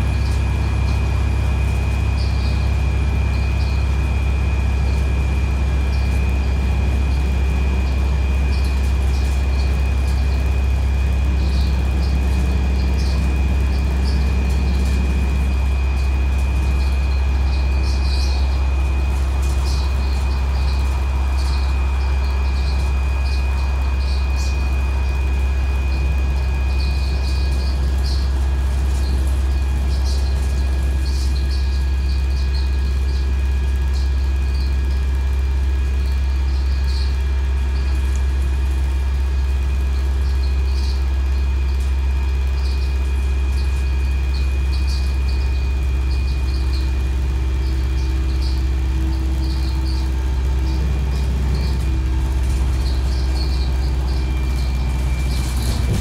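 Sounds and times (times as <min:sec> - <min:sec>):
bus engine and road drone: 0:00.0 - 0:56.0
high whine: 0:00.0 - 0:56.0.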